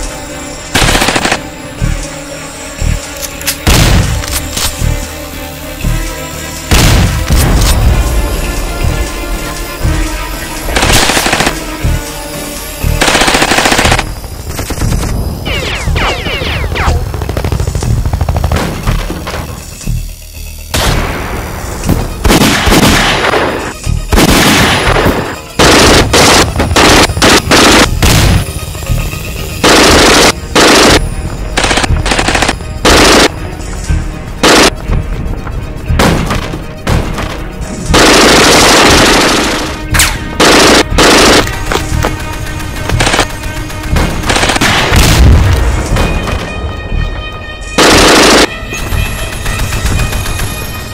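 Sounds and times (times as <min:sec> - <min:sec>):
low rumbling music: 0:00.0 - 0:50.9.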